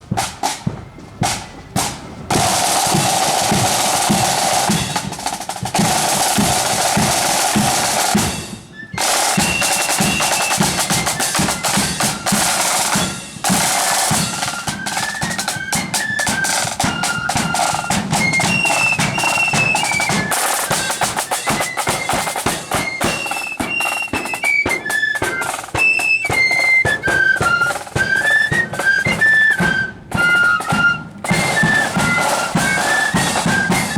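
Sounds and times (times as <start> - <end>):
snare drum rolls: 0.0 - 33.9
flutes playing a tune: 0.1 - 33.9.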